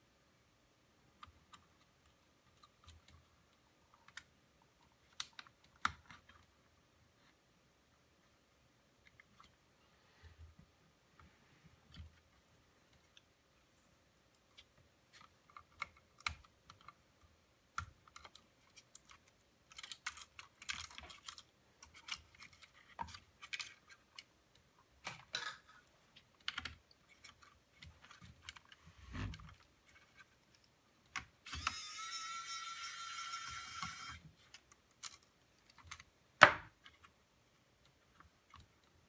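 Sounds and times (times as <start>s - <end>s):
small clicks taps and scrapes: 1.2s - 7.4s, 9.0s - 9.6s, 10.2s - 31.4s, 33.5s - 39.0s.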